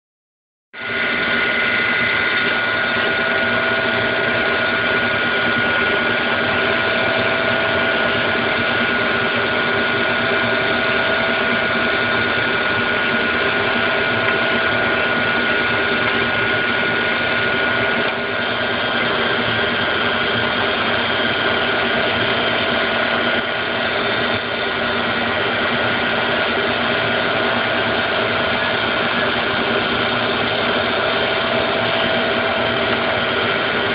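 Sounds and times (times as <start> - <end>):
chiller compressor running: 0.8 - 33.9.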